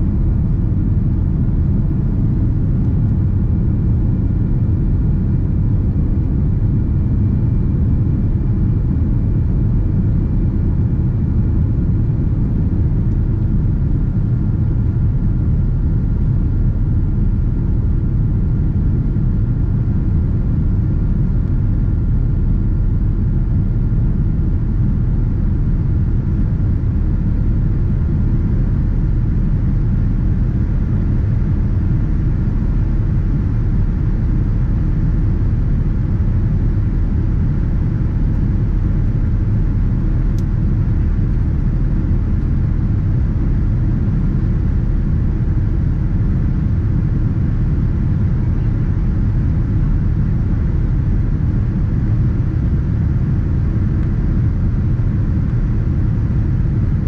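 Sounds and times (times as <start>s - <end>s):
jet engines at climb power: 0.0s - 57.0s.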